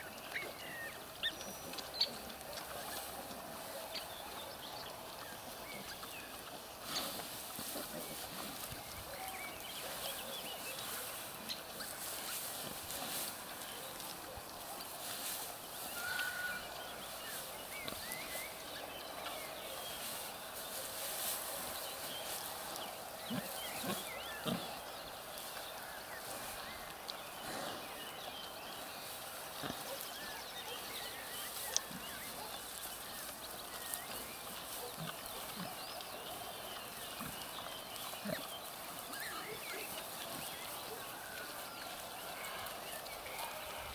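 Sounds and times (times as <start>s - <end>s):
rooting in straw: 0.0s - 43.9s.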